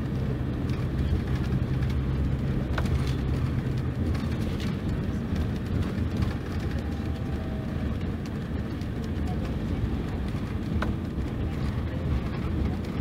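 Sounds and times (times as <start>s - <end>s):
diesel coach engine droning: 0.0s - 13.0s.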